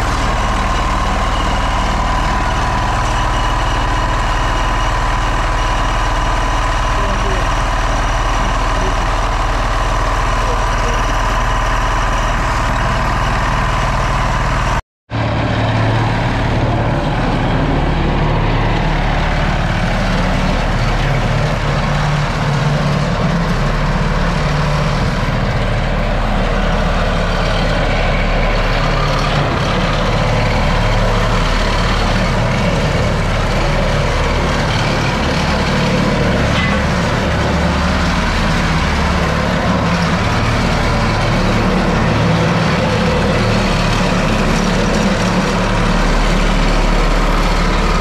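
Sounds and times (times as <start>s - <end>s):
roller compactor engine running: 0.0s - 48.0s.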